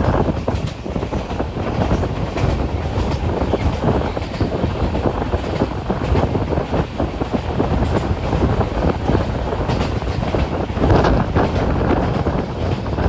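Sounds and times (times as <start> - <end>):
train rumbling and rattling on track: 0.0 - 13.0
wind buffeting microphone: 0.0 - 13.0.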